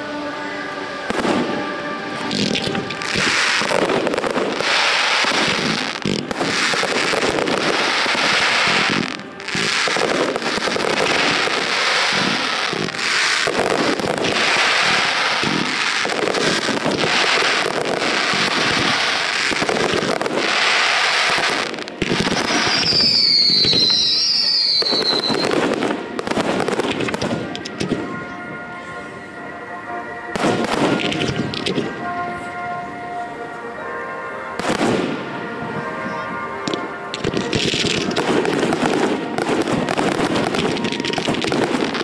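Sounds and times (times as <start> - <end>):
fireworks crackling and banging: 0.9 - 42.0
high firework whistle: 1.1 - 28.9, 35.9 - 42.0.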